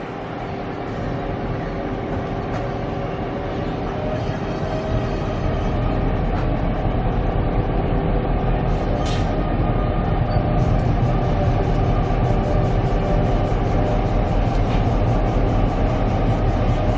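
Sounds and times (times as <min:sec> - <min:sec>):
diesel locomotive engine rumbling: 0:00.0 - 0:16.9.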